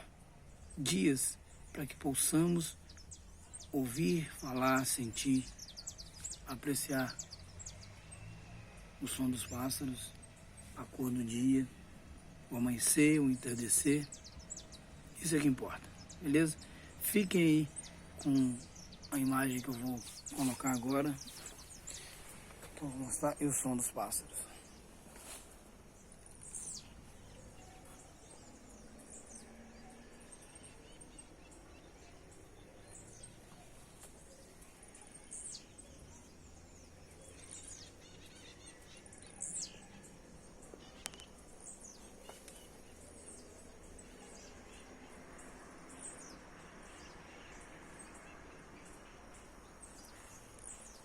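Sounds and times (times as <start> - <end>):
birds chirping: 0.0 - 51.0
low background hiss: 0.0 - 51.0.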